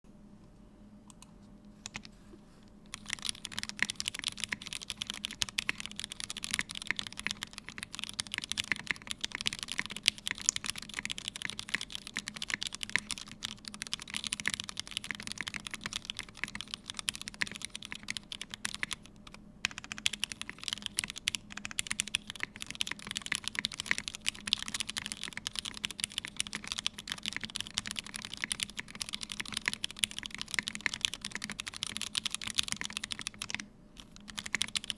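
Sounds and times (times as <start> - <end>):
mechanical keyboard typing: 2.9 - 34.9.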